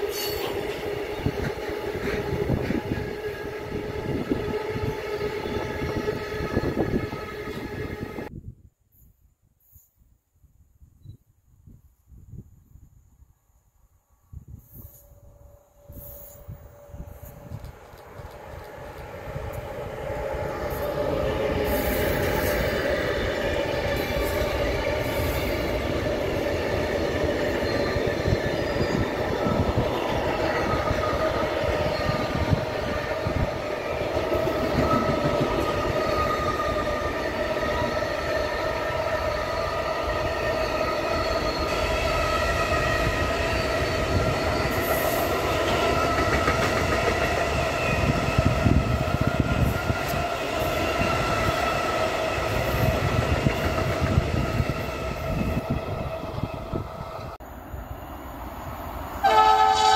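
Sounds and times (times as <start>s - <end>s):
electric locomotive passing: 0.0s - 8.4s, 14.7s - 59.9s.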